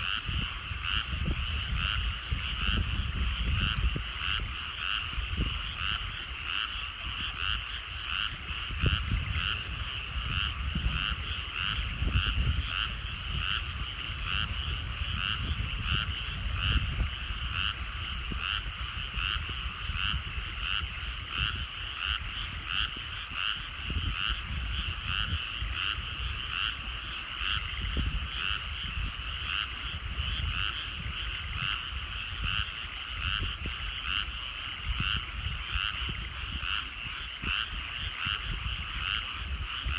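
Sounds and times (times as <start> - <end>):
frogs chorus calling: 0.0 - 39.9.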